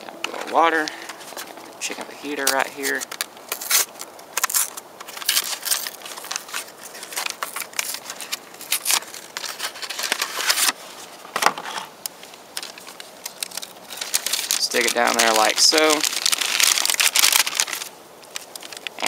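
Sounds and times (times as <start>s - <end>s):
packaging rustling and crinkling: 0.1s - 19.0s.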